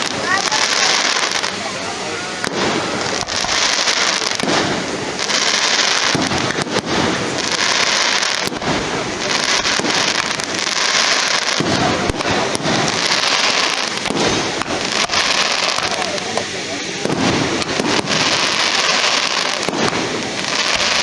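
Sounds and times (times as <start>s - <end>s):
fireworks crackling: 0.0s - 21.0s
fireworks sharp bangs: 0.0s - 21.0s.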